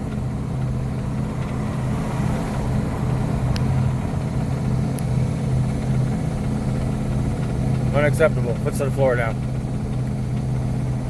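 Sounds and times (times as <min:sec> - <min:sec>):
truck engine sputtering drone: 0:00.0 - 0:11.0.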